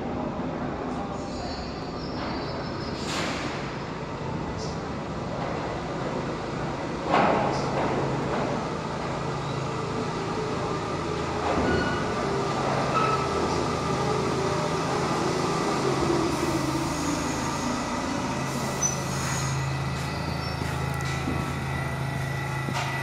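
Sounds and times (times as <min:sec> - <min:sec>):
subway train rumbling on rails: 0:00.0 - 0:23.0.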